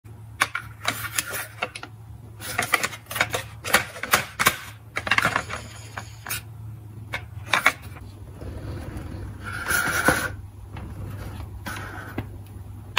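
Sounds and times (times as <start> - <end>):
low steady hum: 0.1 - 12.9.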